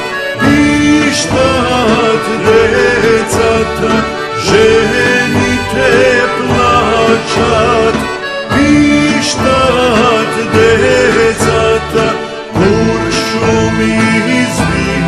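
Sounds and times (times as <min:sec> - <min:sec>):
folk song with accordion: 0:00.0 - 0:15.0.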